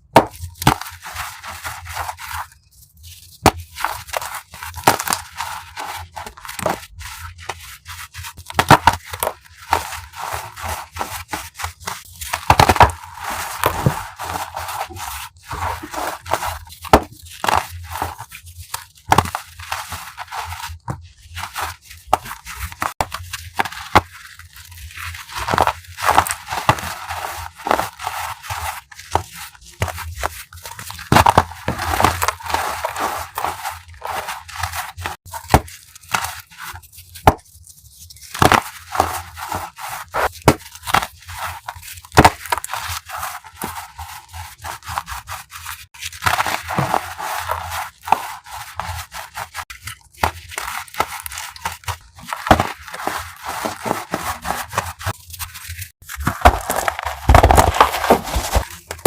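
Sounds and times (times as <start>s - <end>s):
chalk crunching by hand: 0.1s - 59.0s.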